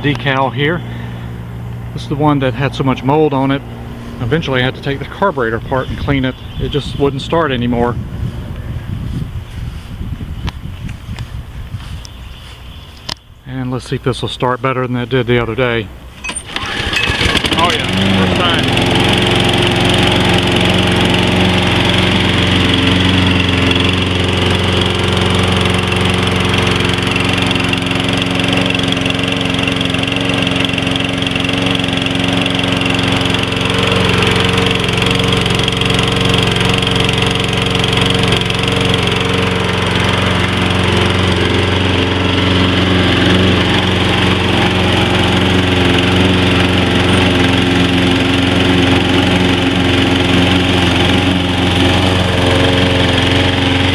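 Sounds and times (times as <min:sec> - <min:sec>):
lawn mower engine running: 0:00.0 - 0:14.3, 0:15.0 - 0:53.9.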